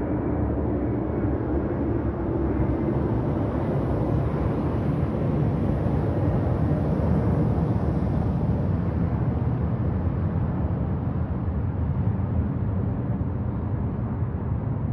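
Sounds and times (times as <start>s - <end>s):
airliner engine rumble overhead: 0.0s - 14.9s.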